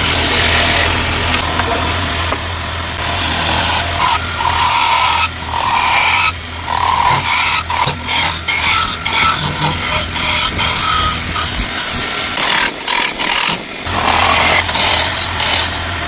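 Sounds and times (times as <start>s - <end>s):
abrasive tool rasping wood: 0.0s - 16.0s.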